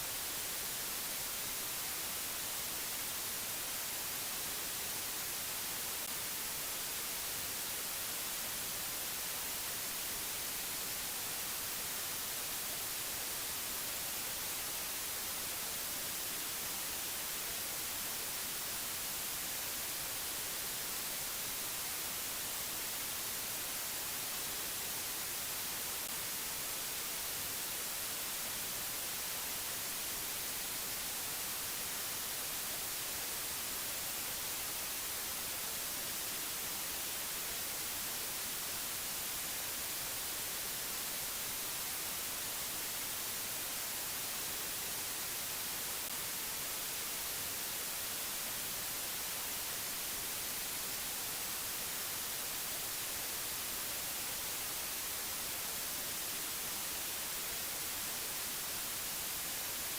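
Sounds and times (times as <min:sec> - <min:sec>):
steady white-noise hiss: 0:00.0 - 0:59.9.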